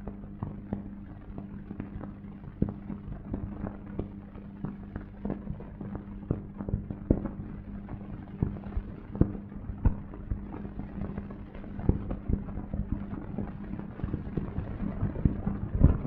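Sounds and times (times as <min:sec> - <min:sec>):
steady low hum: 0:00.0 - 0:16.0
film crackle clicks and pops: 0:00.1 - 0:16.0.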